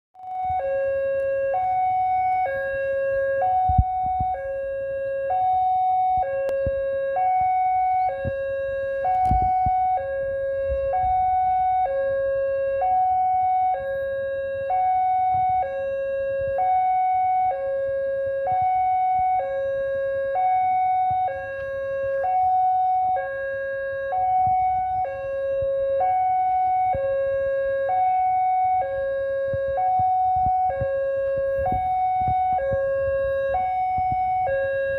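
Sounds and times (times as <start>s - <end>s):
level crossing two-tone alarm: 0.2s - 34.9s.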